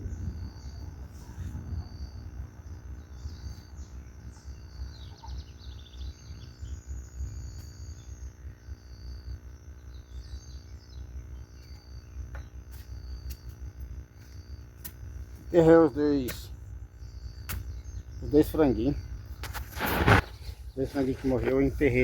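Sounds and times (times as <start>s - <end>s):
crickets chirping: 0.0s - 22.0s
low steady rumble: 0.0s - 22.0s.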